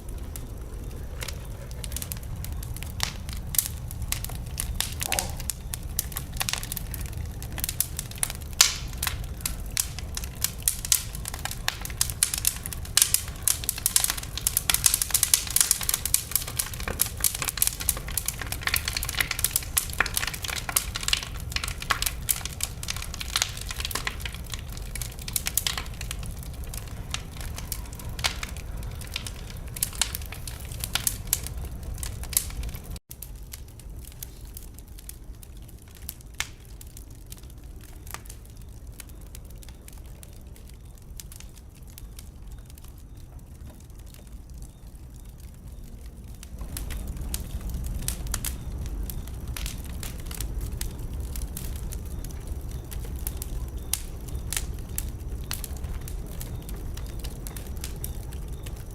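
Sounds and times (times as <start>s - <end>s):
low rumble of flames: 0.0s - 58.9s
wood fire crackling and popping: 0.0s - 58.9s.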